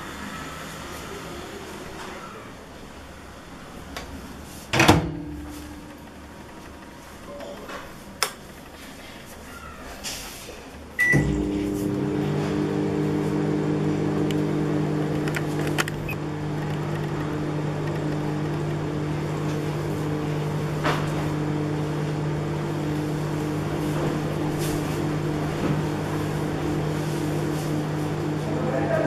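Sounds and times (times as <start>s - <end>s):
microwave oven humming: 4.8s - 10.0s, 10.6s - 29.0s.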